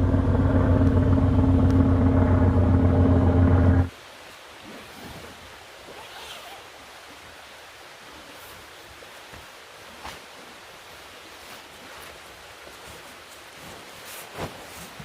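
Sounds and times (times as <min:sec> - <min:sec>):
river water rushing: 0:00.0 - 0:13.6.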